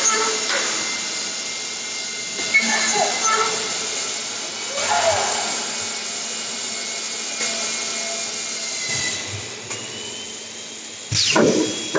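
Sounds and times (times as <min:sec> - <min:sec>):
thin high machine whine: 0:00.0 - 0:11.9.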